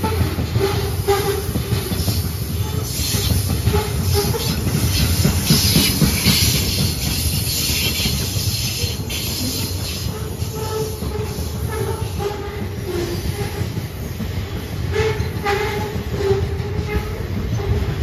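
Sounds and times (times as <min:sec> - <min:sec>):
steel wheels rumbling on rails: 0:00.0 - 0:18.0.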